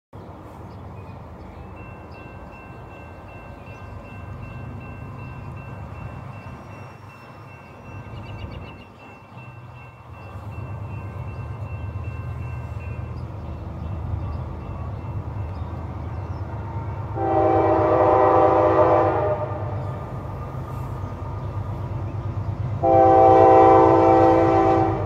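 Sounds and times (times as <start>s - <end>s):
freight train rumble: 0.1s - 25.0s.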